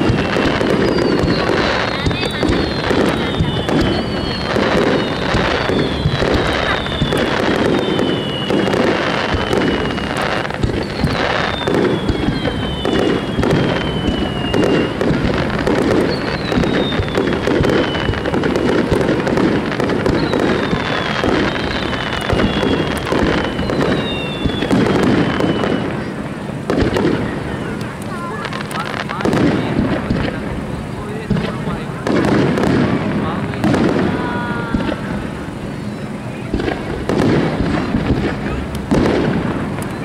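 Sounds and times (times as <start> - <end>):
falling firework whistle: 0.0 - 40.0
fireworks bursts and crackling: 0.0 - 40.0.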